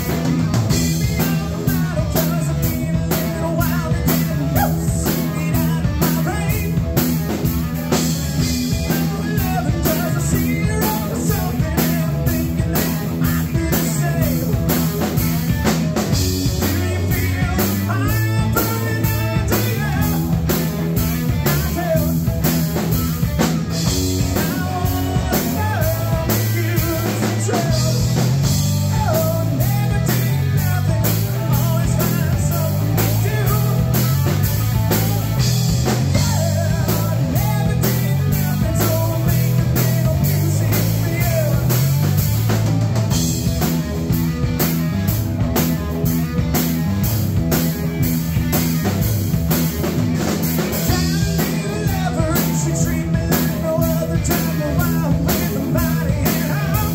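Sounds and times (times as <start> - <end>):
drum kit beat: 0.0 - 56.9
electric bass: 0.0 - 56.9
electric guitar: 0.0 - 56.9.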